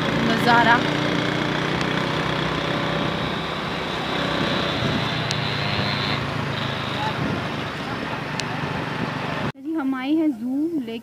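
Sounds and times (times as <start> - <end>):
car engine and road noise: 0.0 - 9.6.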